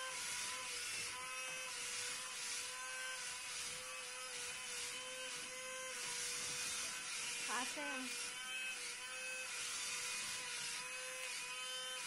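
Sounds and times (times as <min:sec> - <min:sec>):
toy car fan and motors whining: 0:00.0 - 0:12.0.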